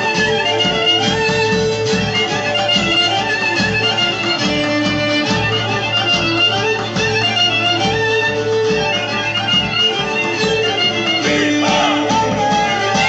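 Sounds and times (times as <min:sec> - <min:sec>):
bowed string melody: 0:00.0 - 0:13.0
steady drum beat: 0:00.0 - 0:13.0.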